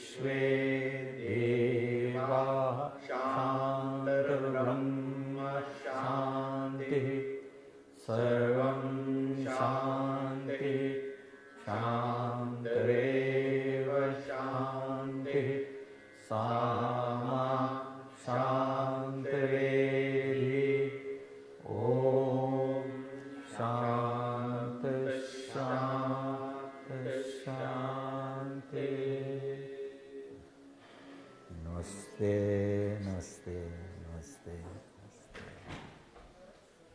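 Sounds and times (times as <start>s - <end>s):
voices chanting together: 0.0s - 30.5s, 31.5s - 35.5s.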